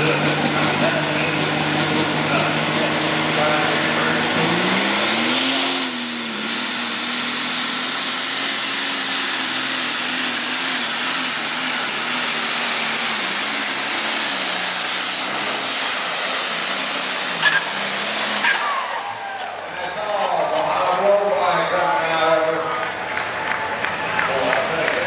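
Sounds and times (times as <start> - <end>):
diesel engine at full power: 0.0 - 25.0
high turbo whine: 0.0 - 25.0.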